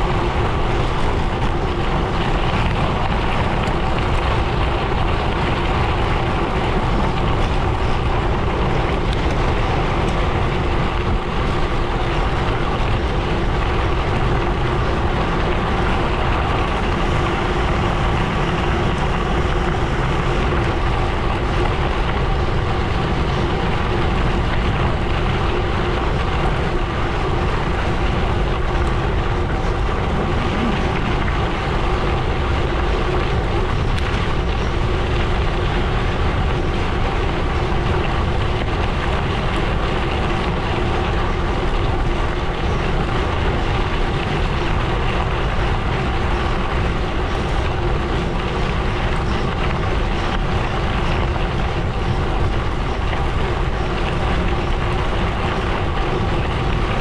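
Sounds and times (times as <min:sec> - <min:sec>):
bike tyres rolling on gravel: 0:00.0 - 0:57.0
faint steady hum: 0:00.0 - 0:57.0.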